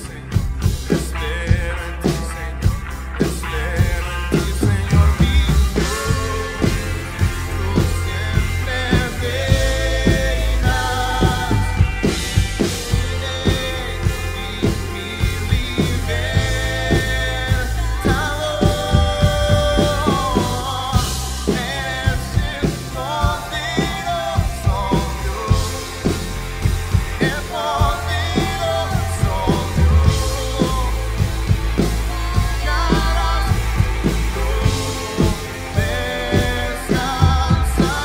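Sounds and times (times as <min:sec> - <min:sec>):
drum kit beat: 0:00.0 - 0:38.0
electric guitar and bass: 0:00.0 - 0:38.0
person singing lead vocal: 0:00.0 - 0:38.0.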